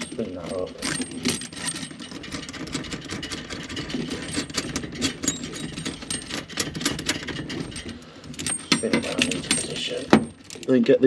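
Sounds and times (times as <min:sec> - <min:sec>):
metal nut rattling on thread: 0:00.0 - 0:10.8.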